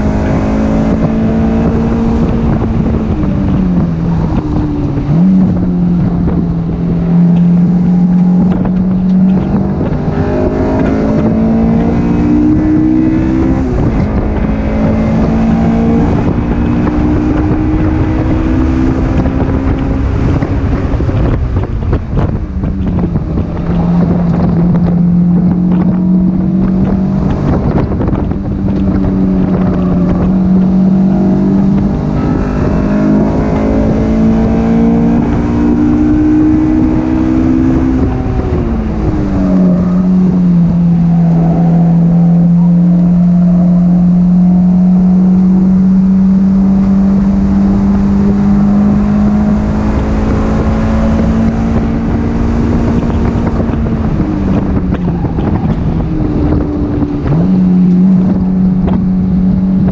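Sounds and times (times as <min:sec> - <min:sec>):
car engine shifting through gears: 0:00.0 - 0:59.9
wind rushing past: 0:00.0 - 0:59.9.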